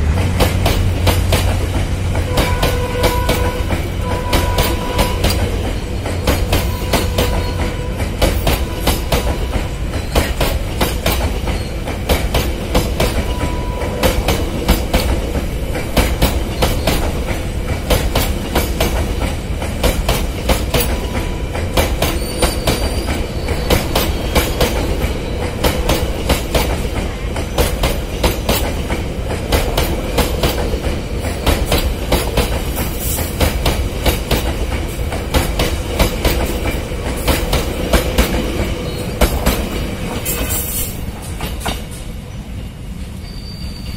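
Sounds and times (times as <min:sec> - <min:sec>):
wheels clacking over rail joints: 0:00.0 - 0:42.2
train wheels rumbling on rail: 0:00.0 - 0:43.9.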